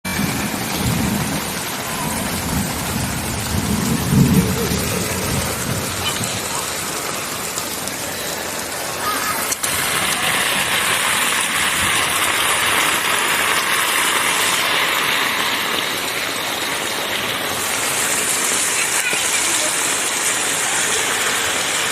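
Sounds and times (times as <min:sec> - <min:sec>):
heavy rain: 0:00.0 - 0:21.9.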